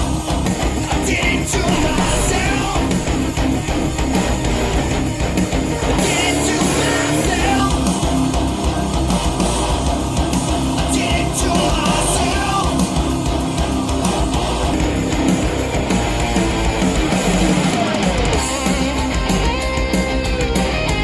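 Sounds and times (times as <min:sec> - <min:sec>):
rock song through speakers: 0:00.0 - 0:21.0.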